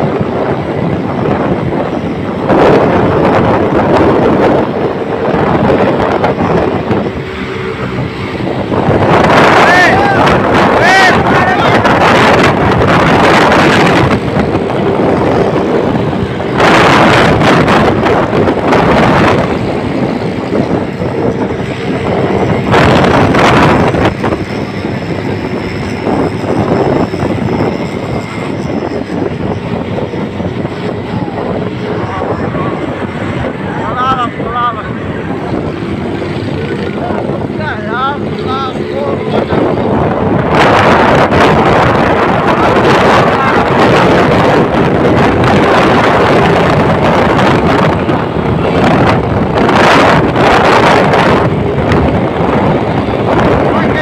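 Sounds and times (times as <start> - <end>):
vehicle engines running: 0.0 - 54.0
wind buffeting microphone: 0.0 - 54.0.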